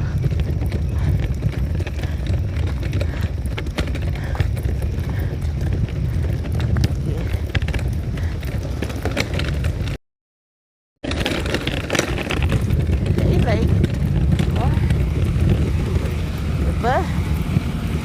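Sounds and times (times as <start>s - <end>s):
footsteps on pavement: 0.0s - 10.0s, 11.2s - 18.0s
low microphone rumble: 0.0s - 10.0s, 11.1s - 18.0s.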